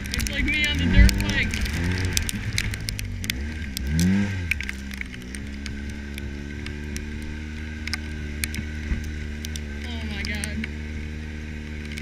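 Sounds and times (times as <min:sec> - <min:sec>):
utility vehicle engine revving: 0:00.0 - 0:12.0
vehicle body rattling: 0:00.0 - 0:12.0.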